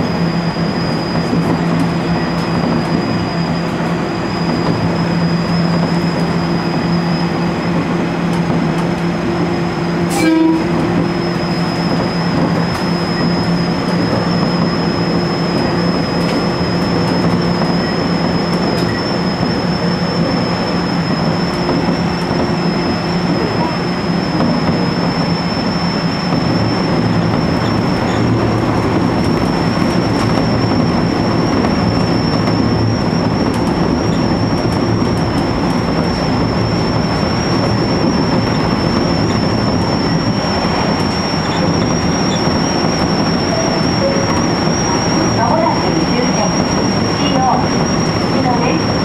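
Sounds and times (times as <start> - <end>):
steady high whine: 0.0 - 49.0
train rail and motor noise: 0.0 - 49.0.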